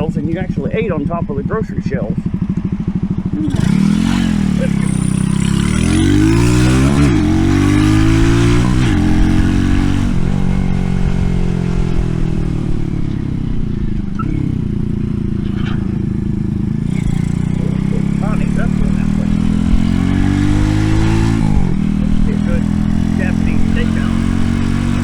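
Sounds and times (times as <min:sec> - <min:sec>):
small motorbike engine revving: 0:02.2 - 0:25.0.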